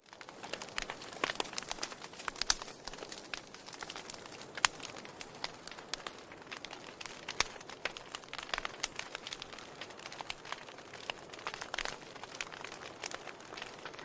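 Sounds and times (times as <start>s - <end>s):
burning wood crackling: 0.0s - 14.0s
fire pops and snaps: 0.0s - 14.0s
fire hissing: 0.2s - 14.0s.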